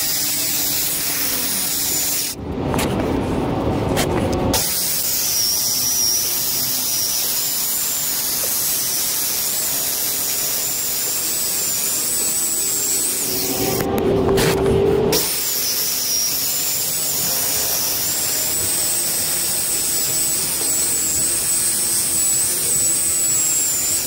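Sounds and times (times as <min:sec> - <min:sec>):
circular saw cutting asphalt: 0:00.0 - 0:02.4, 0:04.6 - 0:13.9, 0:15.1 - 0:24.0.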